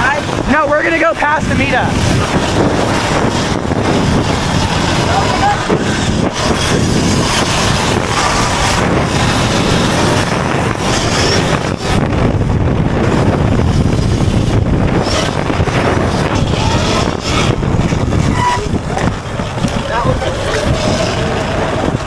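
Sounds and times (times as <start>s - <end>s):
road and tyre noise: 0.0s - 22.0s
wind on microphone: 0.0s - 22.0s.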